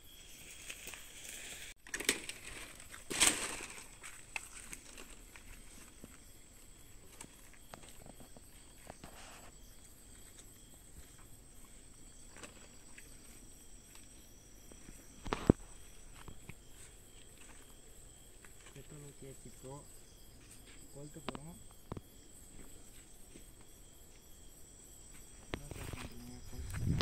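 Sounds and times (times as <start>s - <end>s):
crickets trilling: 0.0s - 27.0s.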